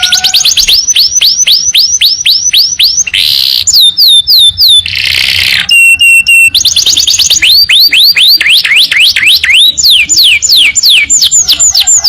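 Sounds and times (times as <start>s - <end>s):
canary singing: 0.0s - 12.0s.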